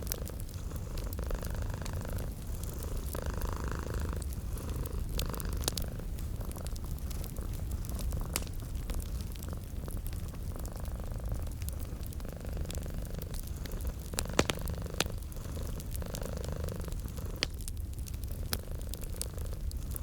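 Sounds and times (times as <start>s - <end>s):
cat purring: 0.0s - 20.0s
fireplace crackling: 0.0s - 20.0s.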